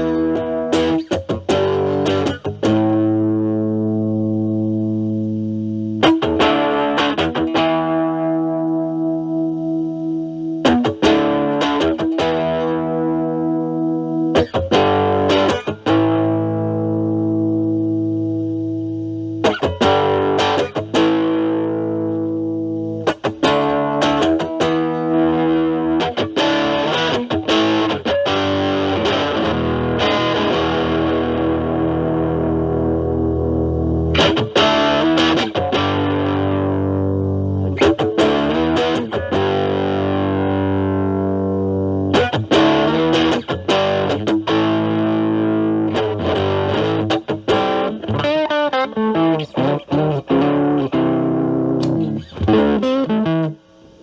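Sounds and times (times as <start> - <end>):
electric guitar chords ringing: 0.0 - 54.0
electric guitar strumming: 0.0 - 54.0.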